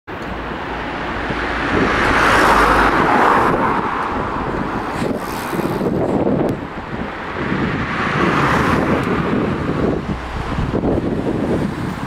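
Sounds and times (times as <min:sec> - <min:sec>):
road vehicle passing: 0:00.2 - 0:12.0
wind rumbling on microphone: 0:00.2 - 0:12.0.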